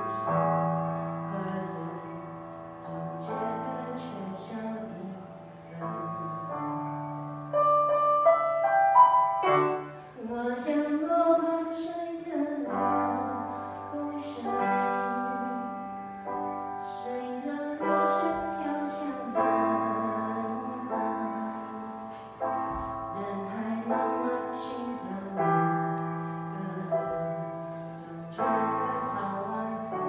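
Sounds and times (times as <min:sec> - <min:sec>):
woman singing: 0:00.0 - 0:07.4, 0:10.2 - 0:30.0.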